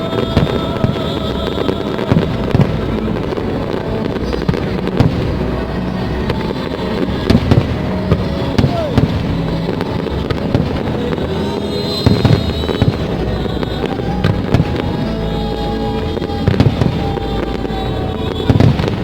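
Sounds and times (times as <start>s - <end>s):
fireworks bangs and crackles: 0.0s - 19.0s
music playing: 0.0s - 19.0s
steady rumble: 0.0s - 19.0s.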